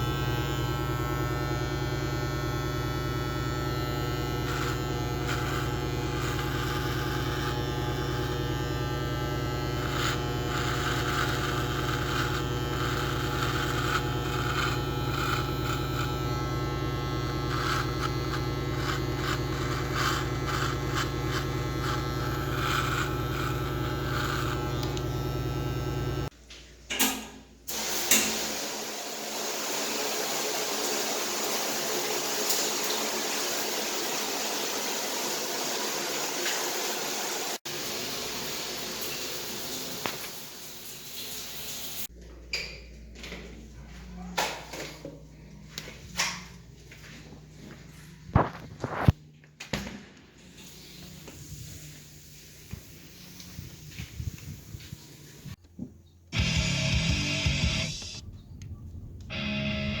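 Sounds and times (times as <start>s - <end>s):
mechanical buzz with low hum: 0.0s - 36.4s, 43.8s - 55.6s, 56.3s - 60.0s.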